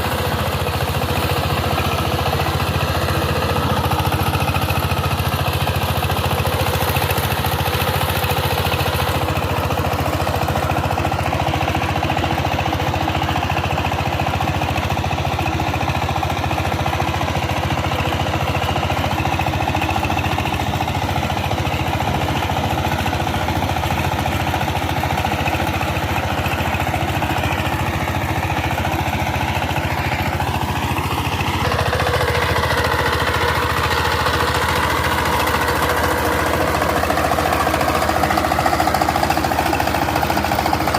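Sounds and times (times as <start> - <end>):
diesel tiller engine knocking: 0.0 - 40.9.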